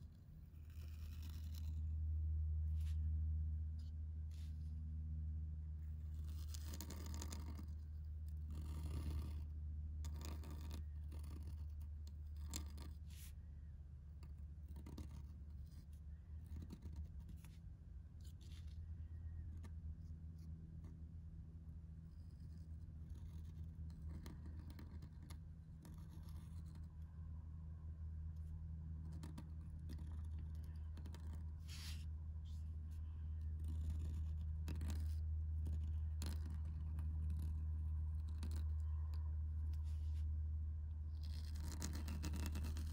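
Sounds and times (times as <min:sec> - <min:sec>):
pen nib scratching paper: 0:00.0 - 0:01.9, 0:05.9 - 0:21.1, 0:22.0 - 0:27.0, 0:28.4 - 0:38.9, 0:41.1 - 0:42.9
steady low hum: 0:00.0 - 0:42.9.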